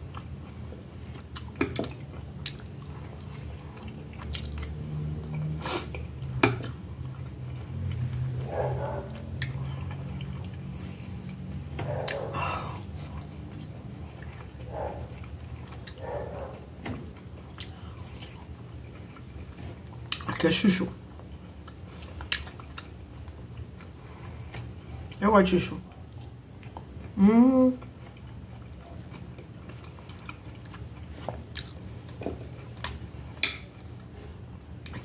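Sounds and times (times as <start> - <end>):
chewing and mouth sounds: 0.0 - 25.2, 25.9 - 35.0.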